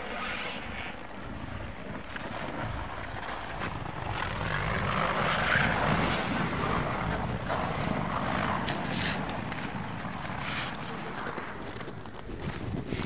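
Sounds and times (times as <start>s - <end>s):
tyre noise on dirt track: 0.0s - 13.0s
suv engine rumble: 1.6s - 13.0s.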